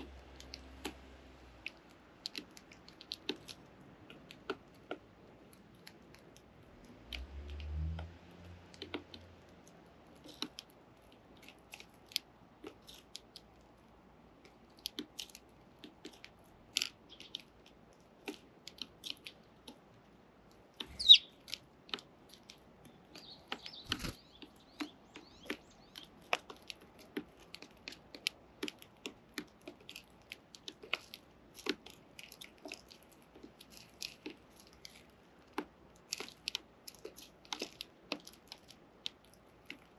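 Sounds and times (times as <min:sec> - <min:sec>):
birds pecking seed: 0:00.0 - 0:39.9.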